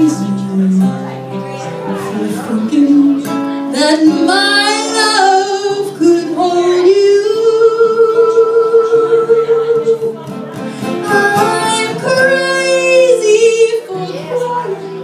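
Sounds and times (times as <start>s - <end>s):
woman singing a slow ballad: 0.0s - 10.2s, 10.8s - 15.0s
acoustic guitar: 0.0s - 15.0s.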